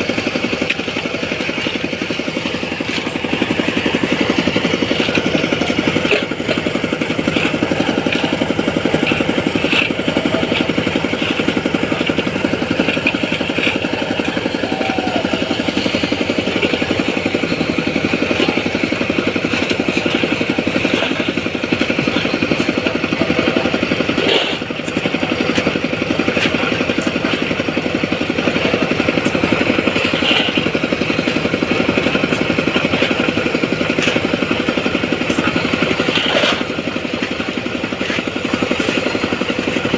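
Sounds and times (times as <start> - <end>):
small engine running under load: 0.0 - 39.9.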